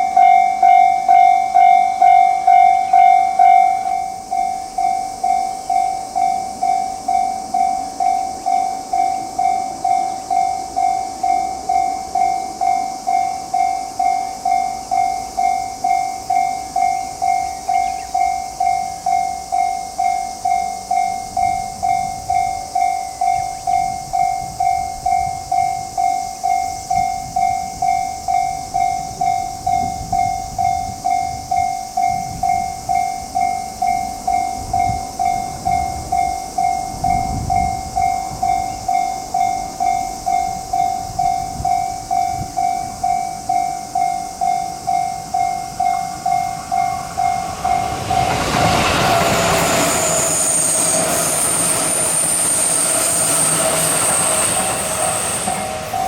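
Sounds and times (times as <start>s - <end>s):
level crossing alarm ringing: 0.0s - 56.0s
train running with high squeal: 0.0s - 56.0s.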